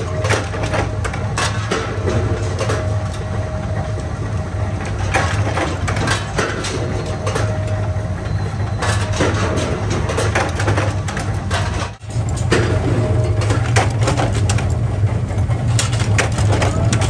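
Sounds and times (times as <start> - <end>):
metallic clanks and scrapes: 0.0 - 14.8
press humming: 0.0 - 17.0.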